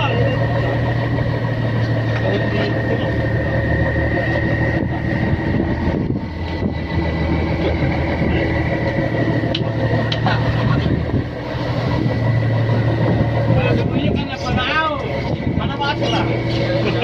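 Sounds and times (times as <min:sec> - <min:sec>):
boat engine humming: 0:00.0 - 0:17.0
high engine whine: 0:00.0 - 0:17.0.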